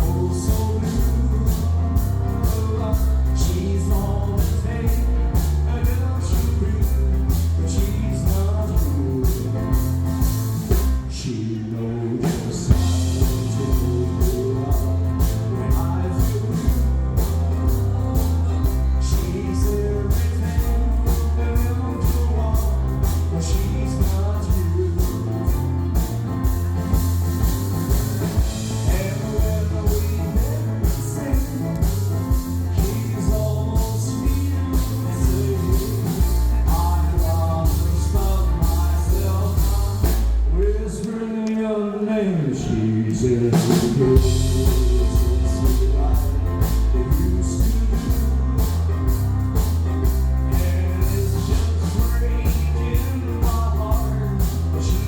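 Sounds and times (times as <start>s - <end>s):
live band with singing: 0.0s - 55.0s.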